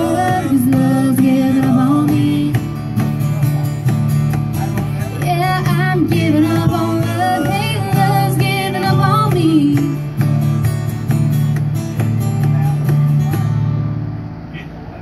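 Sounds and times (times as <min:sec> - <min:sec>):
strummed acoustic guitars: 0:00.0 - 0:15.0.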